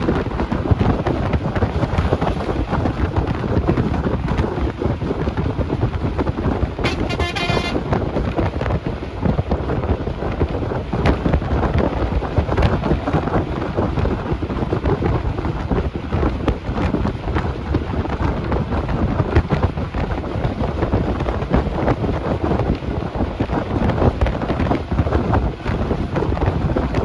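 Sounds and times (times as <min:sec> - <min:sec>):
bus engine and road rumble: 0:00.0 - 0:27.0
wind buffeting: 0:00.0 - 0:27.0.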